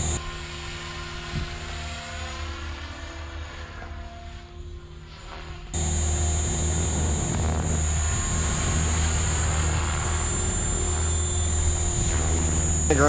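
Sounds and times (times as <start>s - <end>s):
rc helicopter whine and drone: 0.0s - 13.0s.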